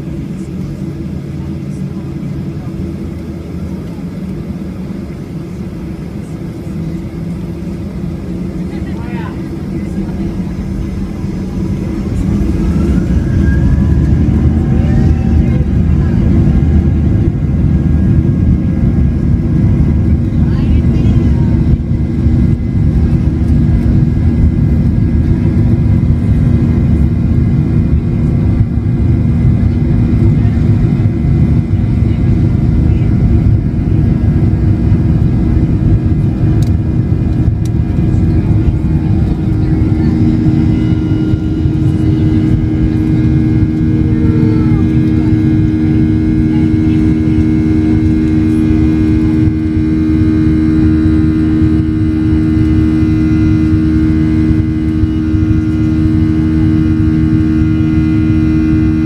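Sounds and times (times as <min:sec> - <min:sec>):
airliner engines rumbling: 0:00.0 - 0:59.0
steady engine hum: 0:00.0 - 0:59.0.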